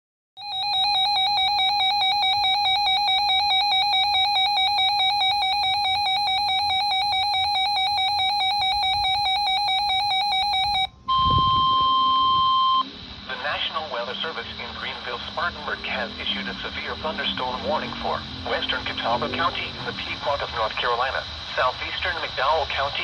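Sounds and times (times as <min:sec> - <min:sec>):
electronic alarm warbling: 0:00.4 - 0:13.6, 0:14.8 - 0:20.2
steady warning tone: 0:00.4 - 0:23.0.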